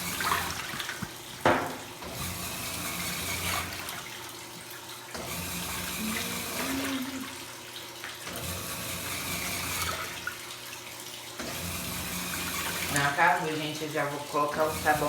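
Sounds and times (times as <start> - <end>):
water gushing into washing machine: 0.0 - 15.0.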